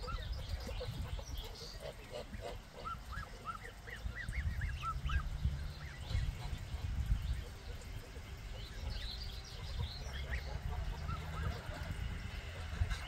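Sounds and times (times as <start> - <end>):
goslings peeping: 0.0 - 13.0.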